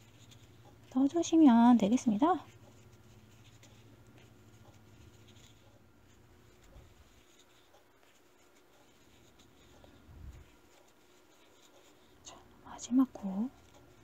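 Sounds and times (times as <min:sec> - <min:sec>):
crochet hook rustling through yarn: 0:00.0 - 0:14.0.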